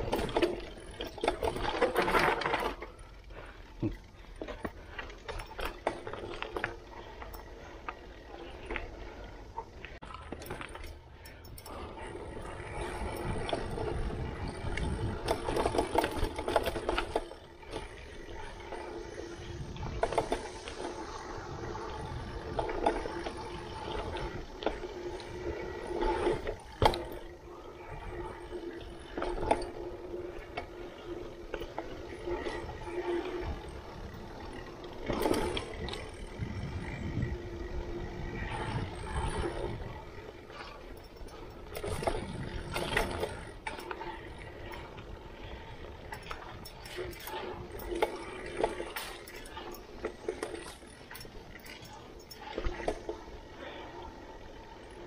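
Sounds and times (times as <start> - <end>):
bike rattling over bumps: 0.0 - 55.0
bike tyres on dirt: 0.0 - 55.0.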